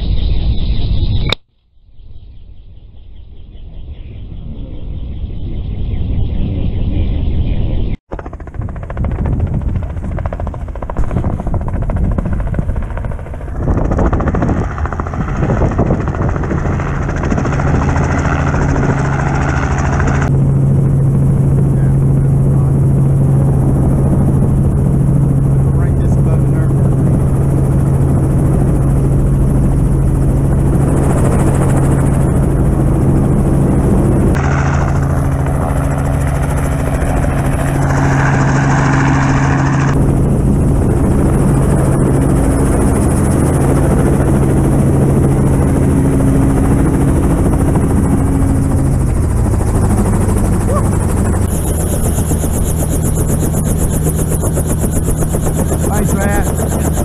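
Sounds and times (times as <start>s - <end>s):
helicopter engine and rotor: 2.8s - 57.0s.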